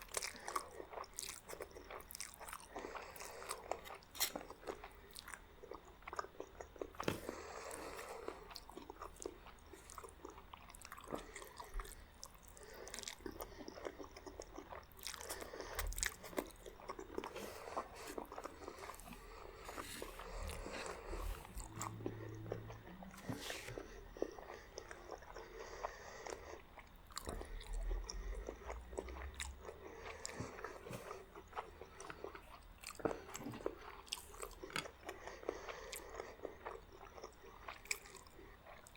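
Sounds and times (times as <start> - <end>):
biting and chewing: 0.0 - 38.9.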